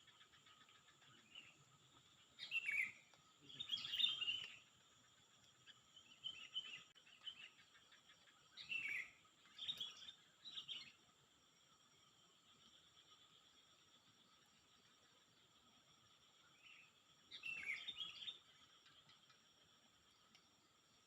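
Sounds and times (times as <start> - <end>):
bird chirps: 0.0 - 11.0, 12.2 - 20.4.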